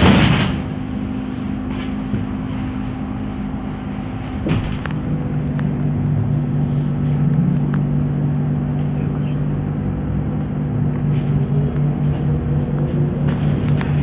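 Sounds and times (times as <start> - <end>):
road rumble: 0.0 - 14.0.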